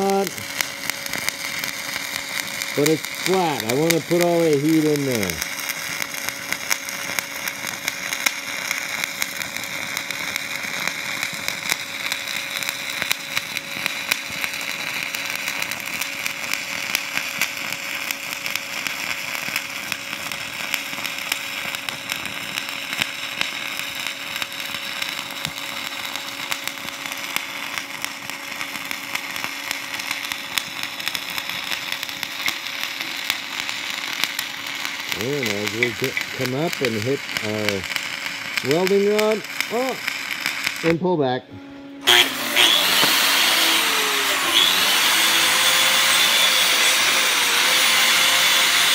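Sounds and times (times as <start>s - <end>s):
welding arc crackling: 0.0s - 41.3s, 42.0s - 48.9s.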